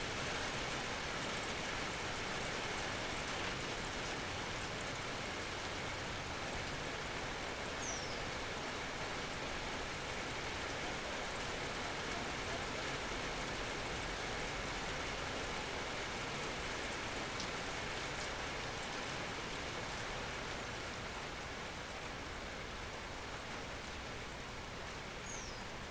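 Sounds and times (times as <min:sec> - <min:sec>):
rain falling: 0:00.0 - 0:25.9.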